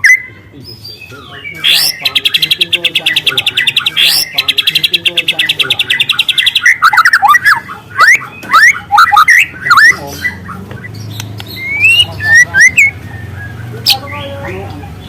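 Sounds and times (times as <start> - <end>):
bird singing trills and whistles: 0.0 - 15.0.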